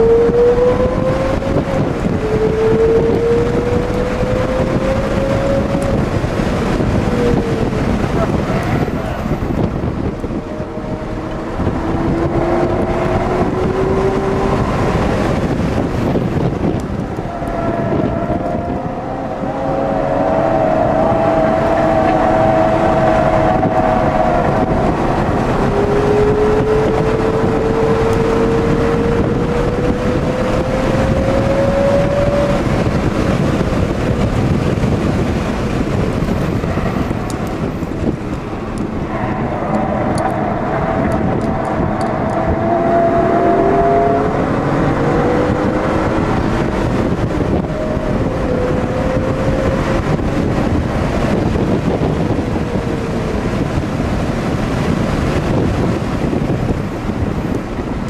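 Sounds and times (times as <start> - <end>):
car engine revving: 0.0 - 58.0
road and wind noise: 0.0 - 58.0.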